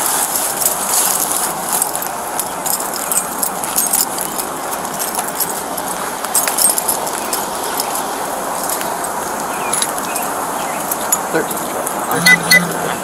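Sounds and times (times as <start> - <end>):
footsteps: 0.0 - 13.0
keys and gear jingling: 0.0 - 13.0
steady hiss: 0.0 - 13.0.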